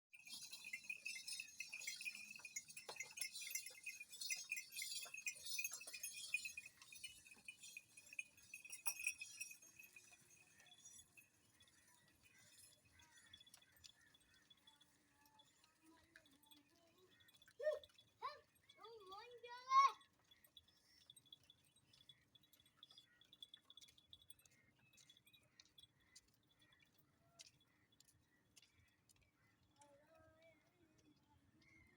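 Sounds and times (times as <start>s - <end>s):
small animals chirping and squeaking: 0.2s - 27.0s.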